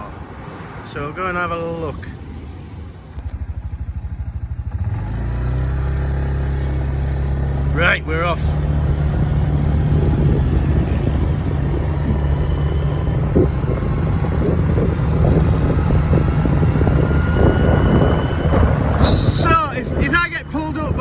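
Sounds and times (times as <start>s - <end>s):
wind buffeting microphone: 0.0s - 21.0s
motorbike engine running: 3.1s - 21.0s.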